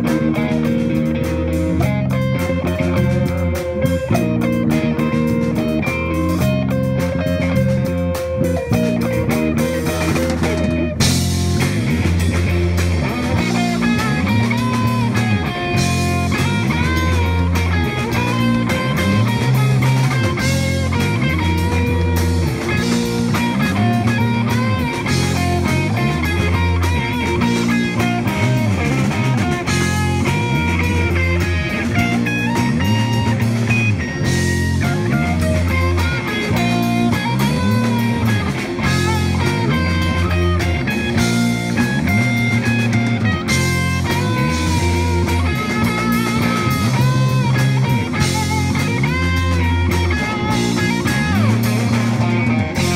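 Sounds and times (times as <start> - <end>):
drum kit: 0.0 - 52.9
electric bass line: 0.0 - 52.9
electric guitars: 0.0 - 52.9.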